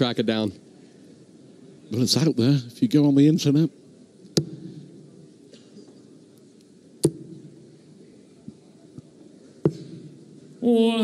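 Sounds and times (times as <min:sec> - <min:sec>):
low crowd hum: 0:00.0 - 0:11.0.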